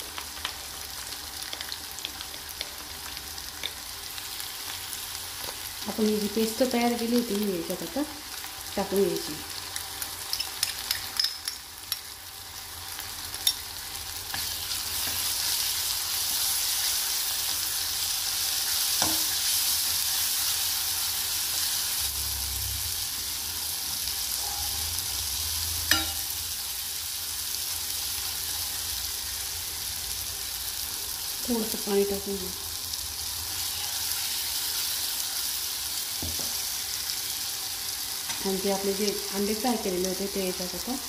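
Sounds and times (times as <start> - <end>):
masala sizzling in a pan: 0.0 - 41.0.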